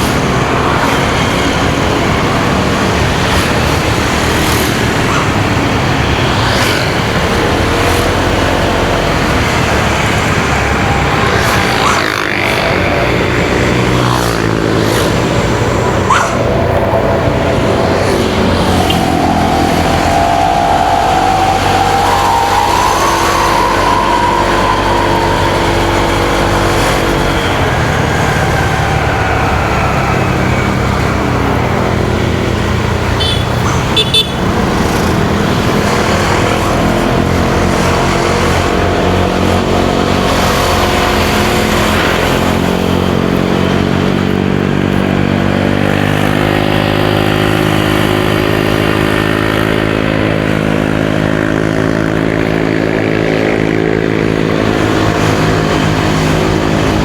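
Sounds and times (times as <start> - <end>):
traffic noise: 0.0 - 57.0.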